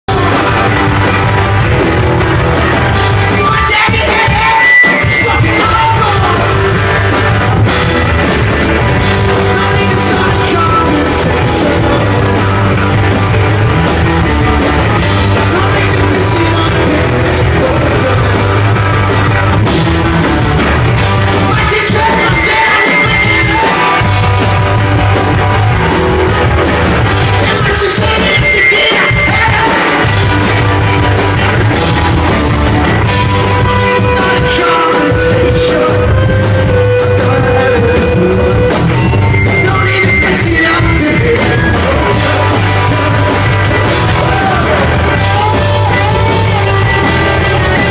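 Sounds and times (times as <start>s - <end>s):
rock band playing live: 0.0s - 47.9s
person singing: 2.6s - 13.9s, 15.0s - 47.9s.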